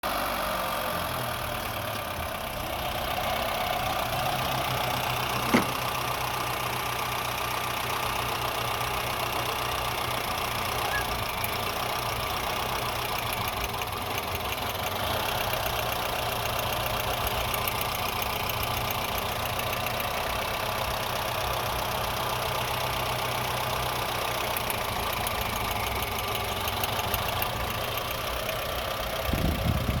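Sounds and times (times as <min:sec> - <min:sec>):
car engine idling with misfire: 0:00.0 - 0:30.0.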